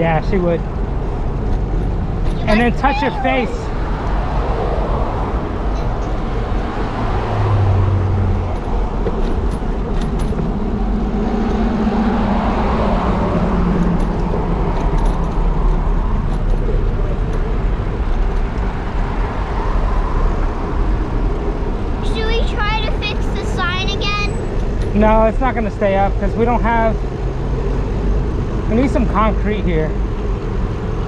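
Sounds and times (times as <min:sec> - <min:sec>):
cars passing: 0:00.0 - 0:31.0
low traffic rumble: 0:00.0 - 0:31.0.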